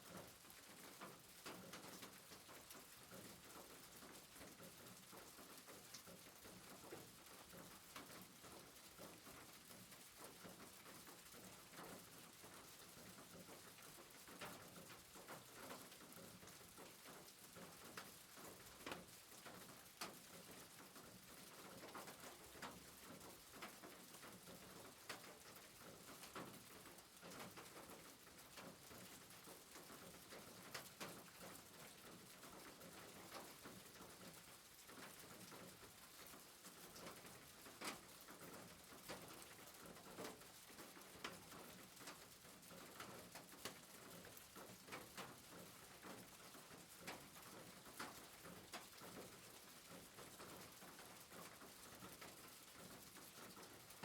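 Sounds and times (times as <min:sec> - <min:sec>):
small drips and ticks: 0:00.0 - 0:54.0
soft rain hiss: 0:00.0 - 0:54.0.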